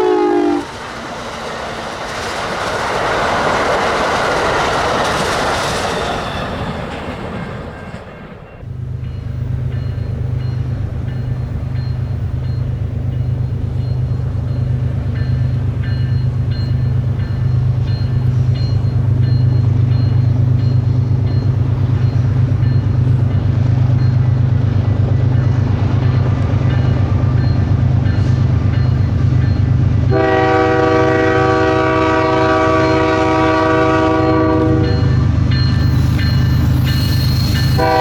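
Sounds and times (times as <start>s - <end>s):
diesel locomotive engines droning: 0.0s - 38.0s.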